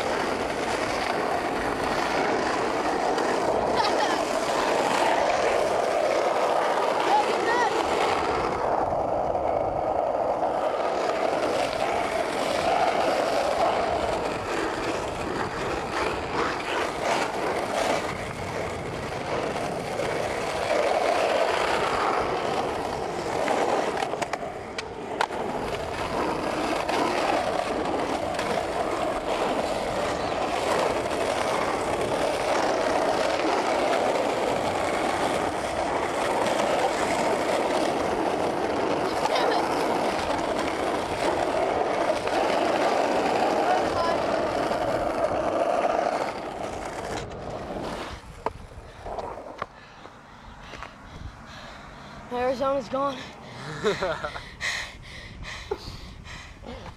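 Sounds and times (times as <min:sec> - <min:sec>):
skateboard wheels rolling on asphalt: 0:00.0 - 0:56.9.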